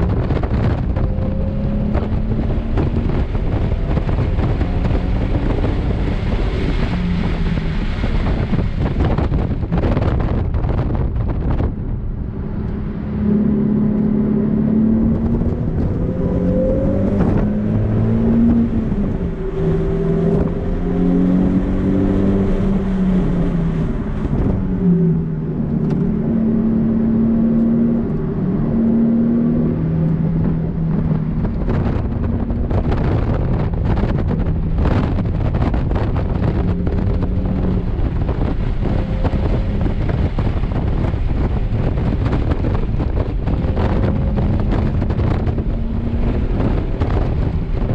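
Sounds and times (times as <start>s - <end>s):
car engine revving: 0.0s - 47.9s
wind and road noise: 0.0s - 47.9s.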